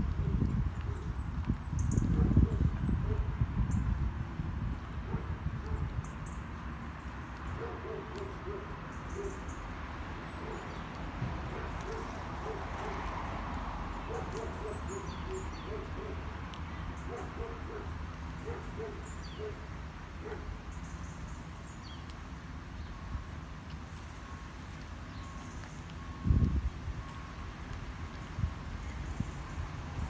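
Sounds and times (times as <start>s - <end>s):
low rumble of road traffic: 0.0s - 30.0s.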